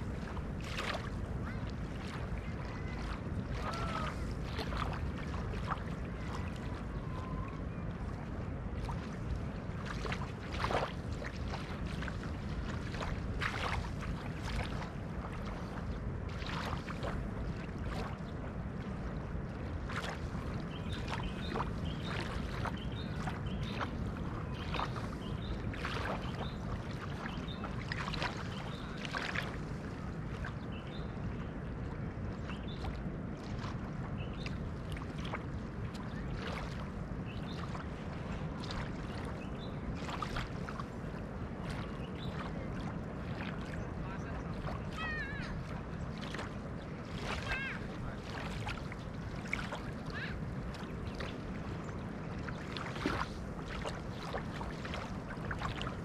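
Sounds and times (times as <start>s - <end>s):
small waves lapping: 0.0s - 56.0s.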